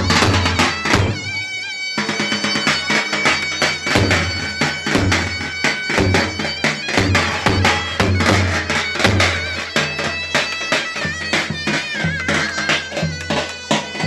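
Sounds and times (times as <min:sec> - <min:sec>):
fast drum beats: 0:00.0 - 0:14.0.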